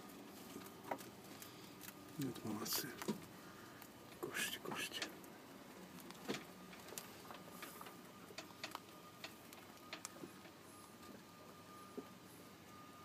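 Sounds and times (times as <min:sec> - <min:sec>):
rabbits munching leaves: 0:00.0 - 0:12.7.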